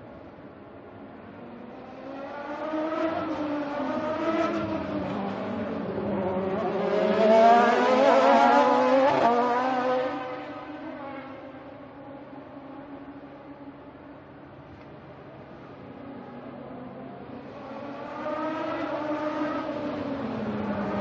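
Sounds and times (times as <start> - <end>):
race cars passing by: 0.1 - 21.0.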